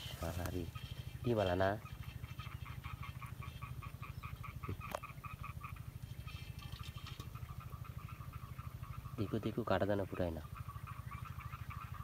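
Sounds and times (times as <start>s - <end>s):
frogs calling in chorus: 0.0s - 12.0s.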